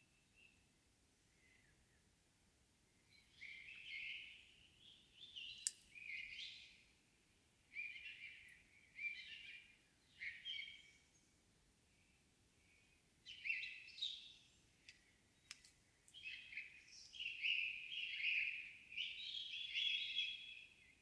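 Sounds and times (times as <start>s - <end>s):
songbirds chirping: 2.8s - 21.0s.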